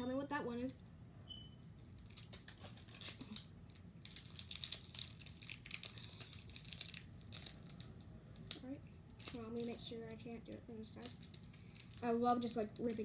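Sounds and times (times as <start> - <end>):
foil wrapper crinkling: 2.0 - 13.0.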